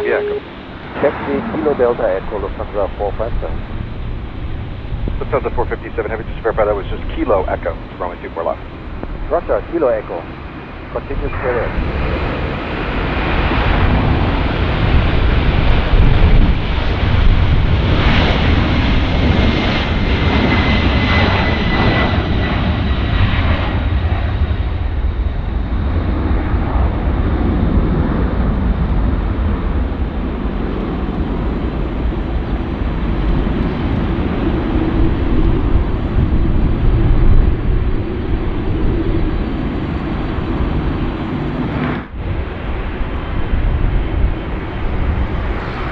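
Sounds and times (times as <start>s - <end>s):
high jet whine: 0.0s - 45.9s
jet engines rumbling: 0.0s - 45.9s.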